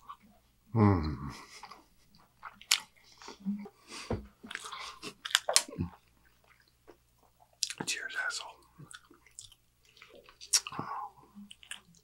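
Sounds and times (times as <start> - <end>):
person chewing food: 1.4 - 12.0.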